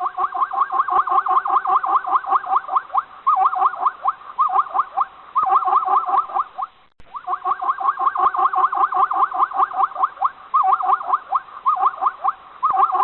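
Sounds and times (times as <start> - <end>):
animal rapid chirping call: 0.0 - 13.0.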